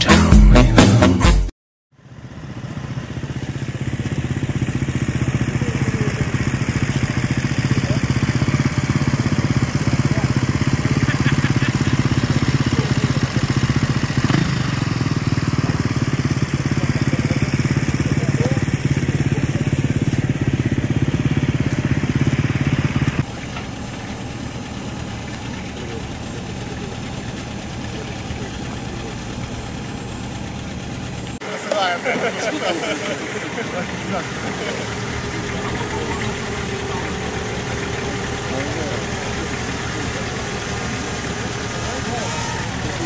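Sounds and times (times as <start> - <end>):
engine idling: 1.9 - 43.0
motor humming: 3.2 - 43.0.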